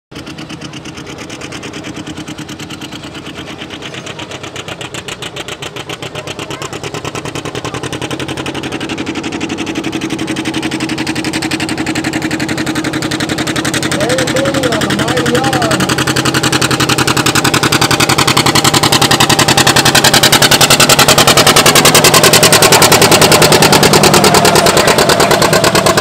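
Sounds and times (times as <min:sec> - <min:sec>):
tractor engine under load: 0:00.1 - 0:26.0.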